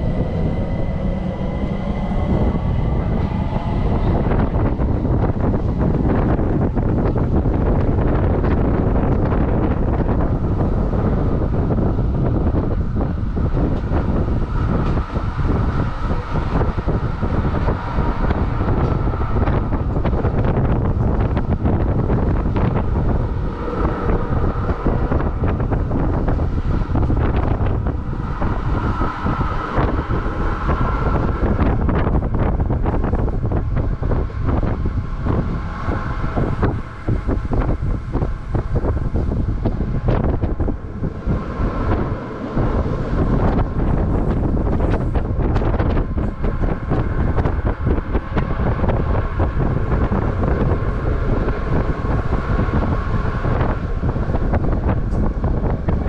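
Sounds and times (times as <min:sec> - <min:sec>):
faint steady whine: 0:00.0 - 0:56.0
train rumble: 0:00.0 - 0:56.0
wind buffeting microphone: 0:00.0 - 0:56.0.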